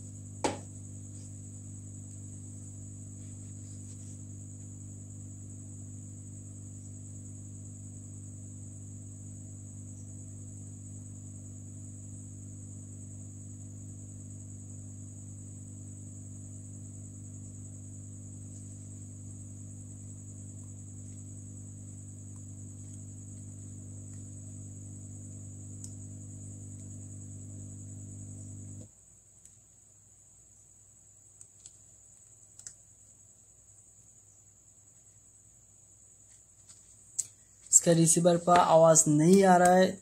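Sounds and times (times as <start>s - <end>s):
electrical hum: 0.0s - 29.3s, 34.1s - 40.0s.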